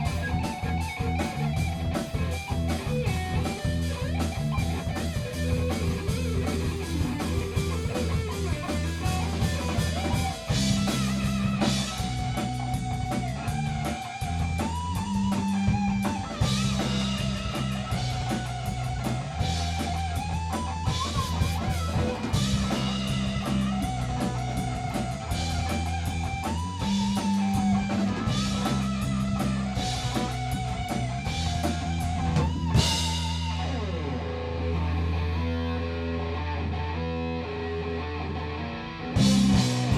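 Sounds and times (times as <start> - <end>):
drum kit beating: 0.0 - 34.4, 39.1 - 39.9
bass guitar line: 0.0 - 39.9
electric guitar lead: 0.0 - 39.9.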